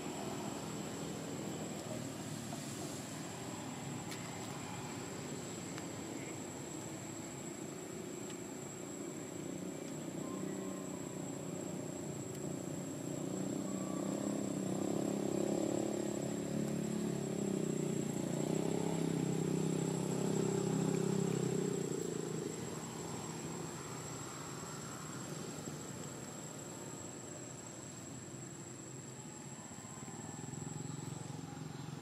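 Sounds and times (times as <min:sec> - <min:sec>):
distant engine hum: 0:00.0 - 0:32.0.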